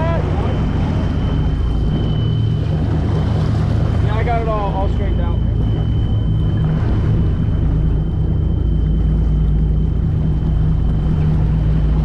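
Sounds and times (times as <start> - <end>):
boat engine humming: 0.0 - 12.0
faint high whine: 0.0 - 12.0.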